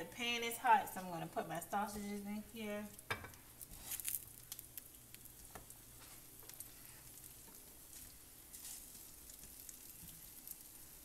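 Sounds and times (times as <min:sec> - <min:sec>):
sausage sizzling in a pan: 0:00.0 - 0:11.0.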